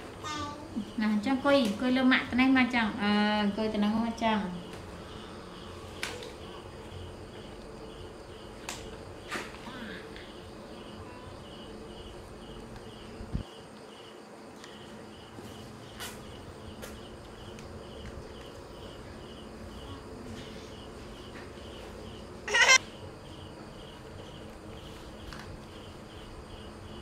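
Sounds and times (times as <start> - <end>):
insect chirping: 0.2 - 27.0.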